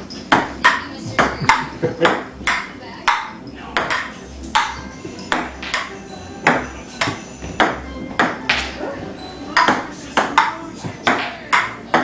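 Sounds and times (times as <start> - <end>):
ping-pong ball hitting paddles and table: 0.0 - 12.0.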